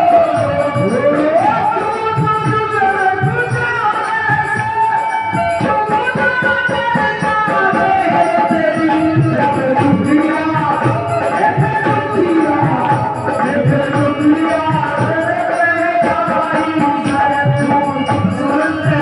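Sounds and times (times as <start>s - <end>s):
hand drum beat: 0.0s - 19.0s.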